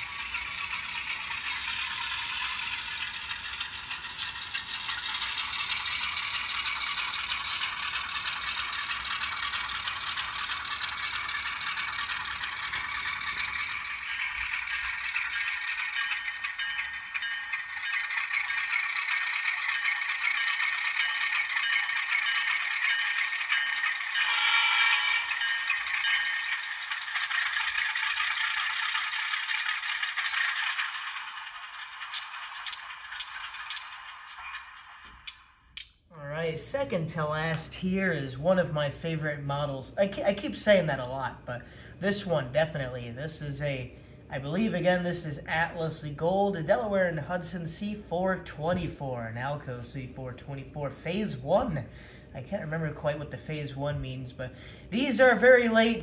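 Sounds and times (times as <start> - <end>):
model train rattling clatter: 0.0 - 43.7, 52.6 - 56.0
motor and wheels whirring: 0.0 - 49.7.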